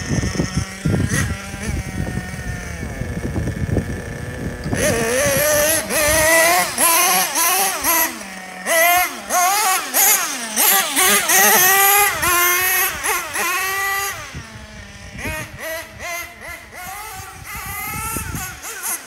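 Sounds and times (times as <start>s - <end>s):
small nitro engine revving: 0.0s - 19.0s.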